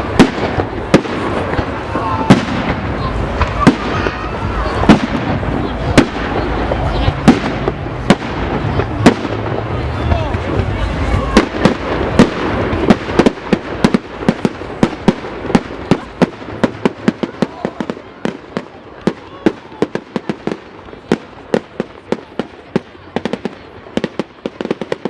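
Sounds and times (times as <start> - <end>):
fireworks banging and cracking: 0.0 - 25.0.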